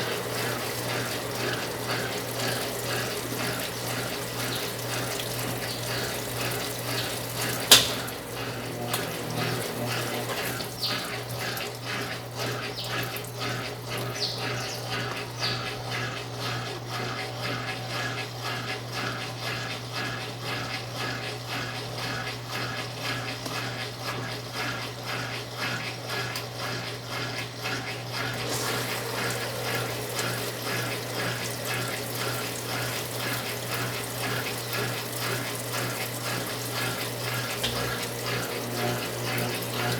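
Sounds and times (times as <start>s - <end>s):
constant electrical hum: 0.0s - 25.1s, 26.3s - 39.9s
water pouring into washing machine: 0.0s - 39.9s.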